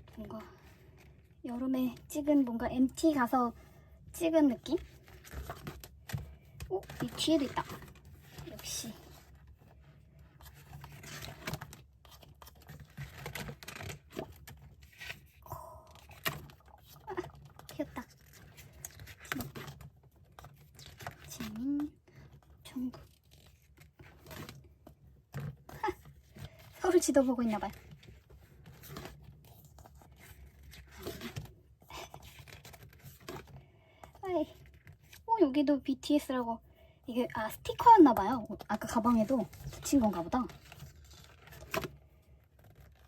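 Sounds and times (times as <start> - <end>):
paper rustling: 4.5 - 35.3, 37.8 - 43.0.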